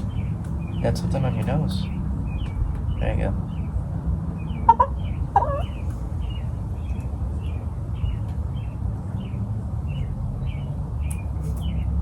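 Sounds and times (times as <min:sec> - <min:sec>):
steady low rumble: 0:00.0 - 0:11.1
bird chirping: 0:00.0 - 0:12.0.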